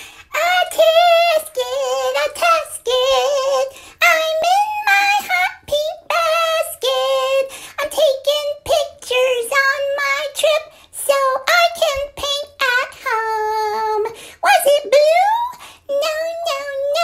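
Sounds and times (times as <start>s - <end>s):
person singing unaccompanied: 0.2s - 17.0s.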